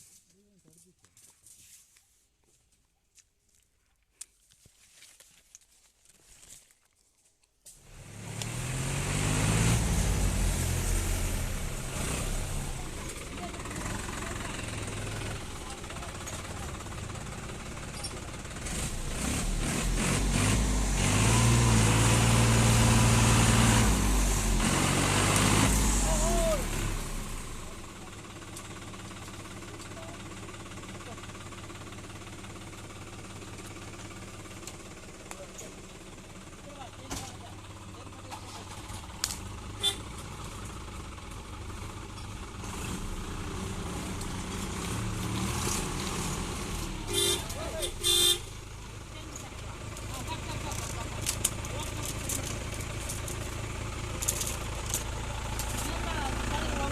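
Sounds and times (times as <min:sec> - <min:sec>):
vehicle engine running hard: 0:07.8 - 0:56.9.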